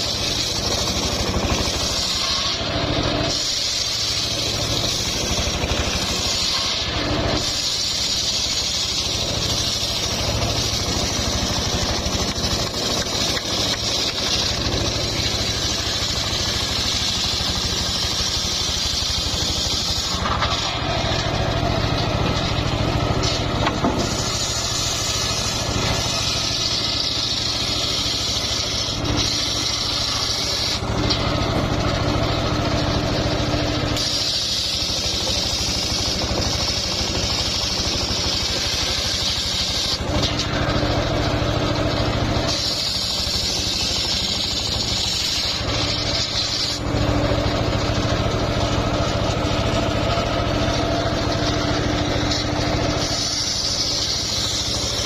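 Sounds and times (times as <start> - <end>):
engine drone: 0.0 - 55.0
saw blade cutting hiss: 0.0 - 55.0.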